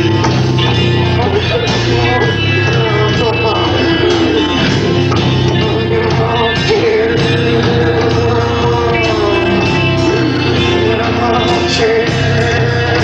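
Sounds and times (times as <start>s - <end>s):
guitars: 0.0s - 13.0s
live rock band playing: 0.0s - 13.0s
person singing: 0.0s - 13.0s.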